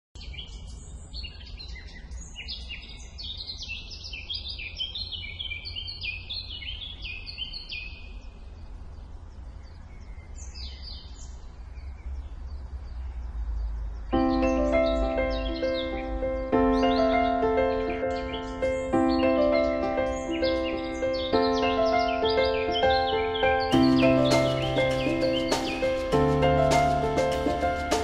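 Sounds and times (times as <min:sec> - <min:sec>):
songbirds chirping and trilling: 0:00.2 - 0:28.0.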